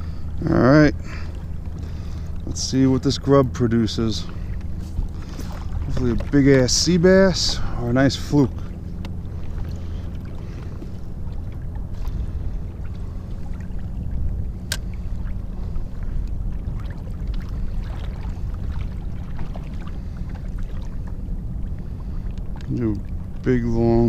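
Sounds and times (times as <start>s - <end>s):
water splashes against hull: 0.0s - 24.0s
wind and water rumble: 0.0s - 24.0s.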